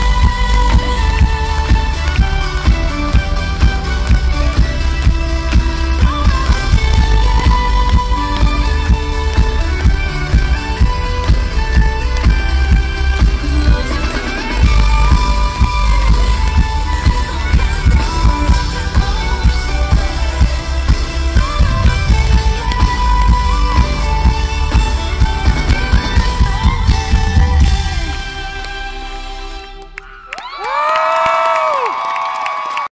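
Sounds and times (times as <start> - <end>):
heavy bass beat: 0.0 - 28.2
violin melody: 0.0 - 30.2
electronic pop music over pa: 0.0 - 30.8.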